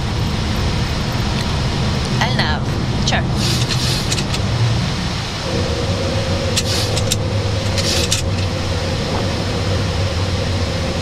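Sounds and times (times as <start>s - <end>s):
jet engines and airflow rumble: 0.0s - 11.0s
steady tone: 0.0s - 11.0s.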